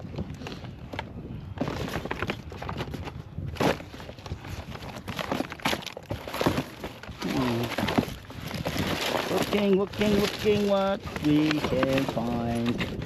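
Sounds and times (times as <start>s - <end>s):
hands rummaging through items: 0.0s - 13.0s.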